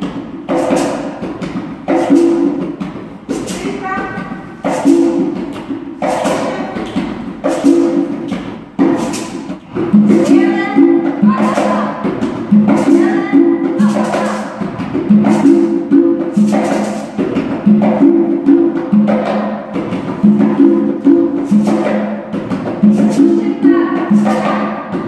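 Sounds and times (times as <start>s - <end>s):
percussion rhythm with low drum notes: 0.0s - 25.0s.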